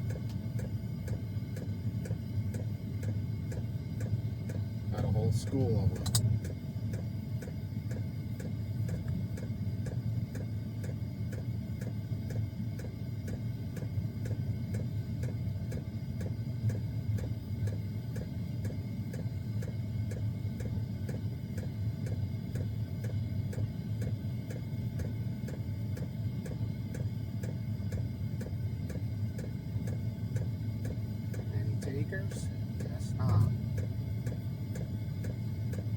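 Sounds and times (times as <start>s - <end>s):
air heater humming: 0.0s - 35.9s
fuel pump ticking: 0.0s - 35.9s.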